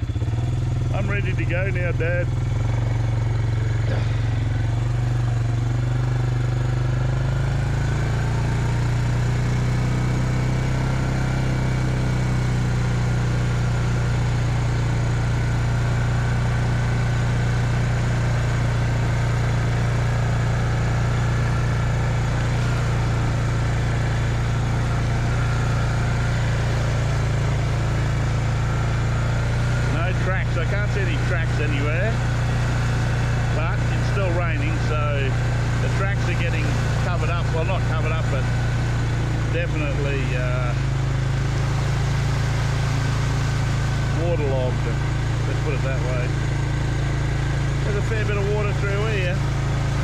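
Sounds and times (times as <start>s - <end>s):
quad bike engine running: 0.0s - 50.0s.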